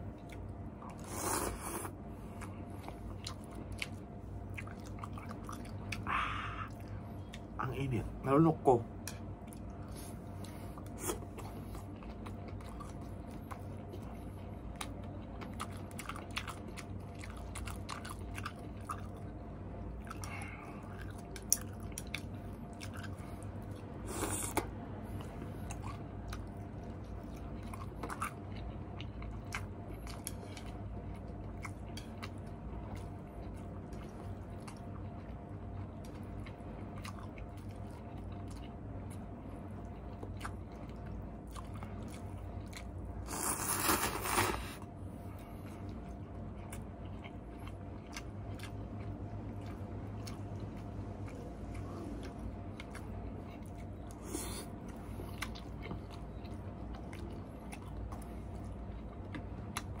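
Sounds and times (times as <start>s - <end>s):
person chewing food: 0.0s - 7.6s, 9.0s - 60.0s
steady low hum: 0.0s - 60.0s.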